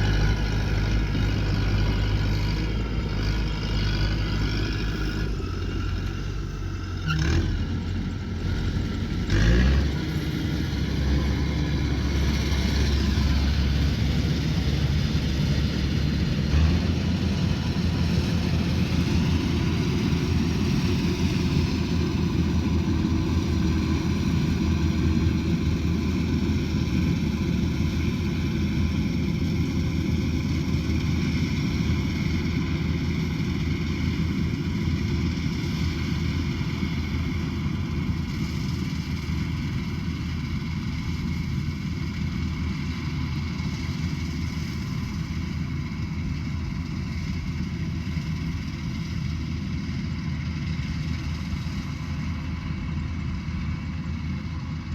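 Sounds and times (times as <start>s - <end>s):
combine harvester engine running: 0.0s - 54.9s.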